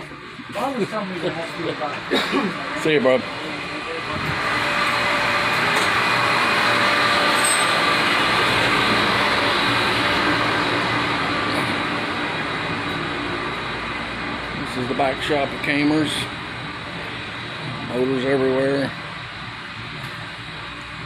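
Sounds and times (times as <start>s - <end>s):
mechanical running noise with hum: 0.0s - 21.0s.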